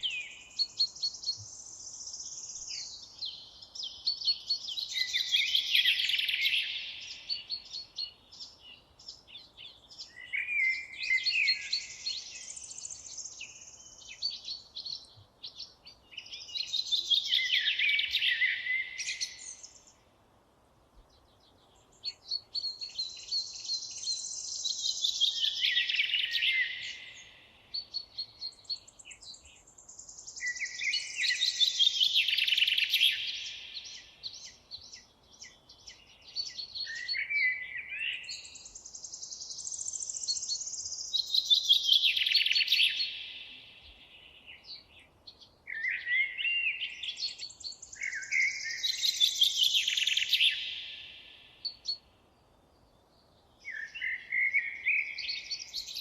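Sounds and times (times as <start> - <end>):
bird chirps: 0.0 - 20.0, 21.1 - 56.0
songbird singing falling phrases: 0.0 - 56.0.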